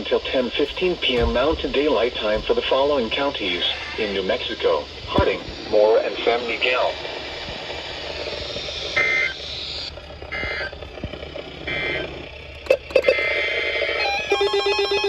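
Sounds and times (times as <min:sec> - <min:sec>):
radio receiver hiss: 0:00.0 - 0:14.3.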